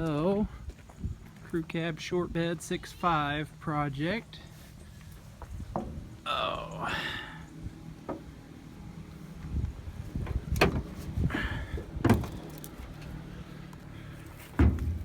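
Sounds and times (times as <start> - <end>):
steady low hum: 2.9 - 15.0.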